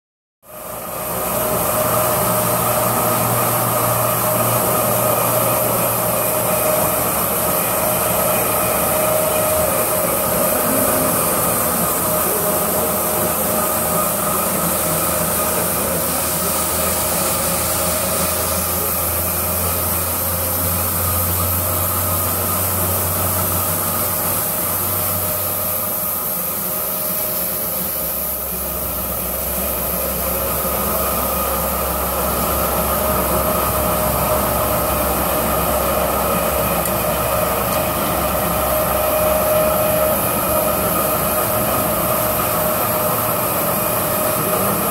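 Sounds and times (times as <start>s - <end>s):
carpet washing machine hum: 0.4s - 44.9s
machine whine: 0.4s - 44.9s.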